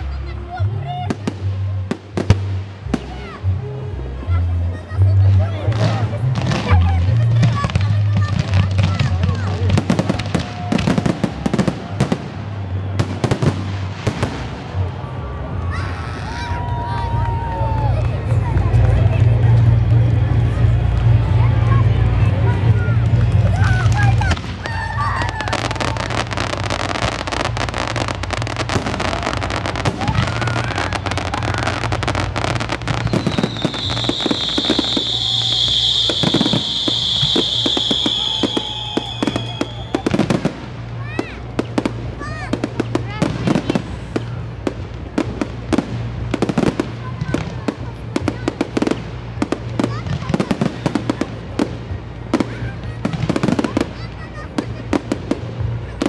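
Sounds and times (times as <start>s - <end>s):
fireworks cracking and popping: 1.0s - 3.4s, 5.3s - 15.8s, 16.6s - 56.0s.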